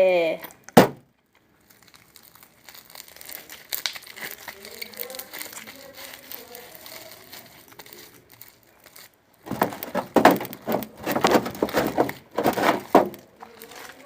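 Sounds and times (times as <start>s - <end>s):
slime crackling and squishing: 0.5s - 14.0s.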